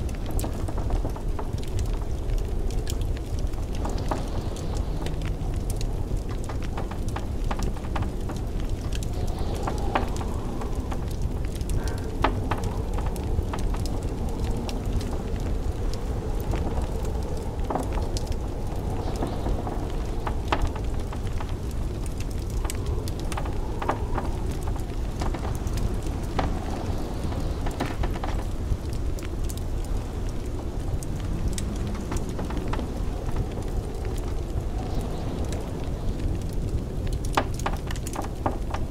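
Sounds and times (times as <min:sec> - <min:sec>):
blizzard wind rumble: 0:00.0 - 0:38.9
wood fire crackling and popping: 0:00.0 - 0:38.9.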